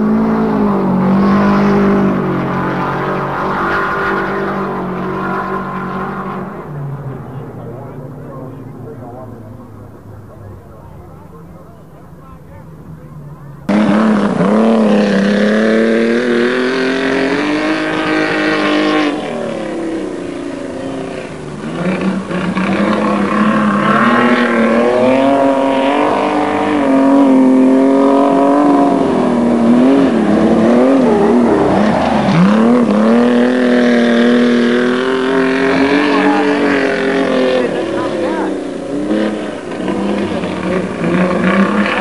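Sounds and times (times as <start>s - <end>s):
racing car engines running hard: 0.0s - 42.0s.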